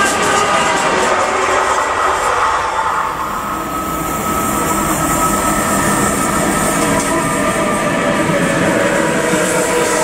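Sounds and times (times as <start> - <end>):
freight train wheels rumbling on rails: 0.0 - 10.0.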